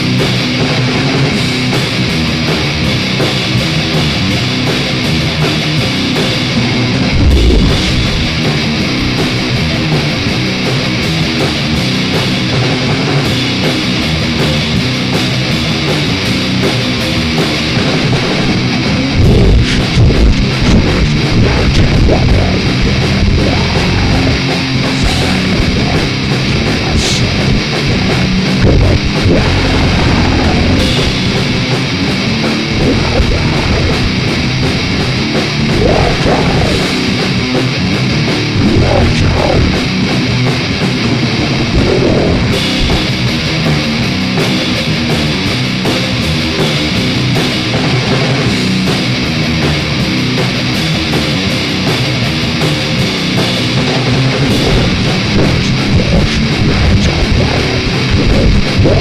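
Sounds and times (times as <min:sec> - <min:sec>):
distorted guitars and drums: 0:00.0 - 0:59.0.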